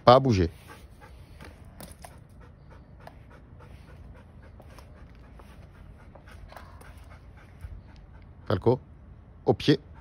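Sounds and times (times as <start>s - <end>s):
dog panting: 0.2s - 9.0s, 9.6s - 10.0s.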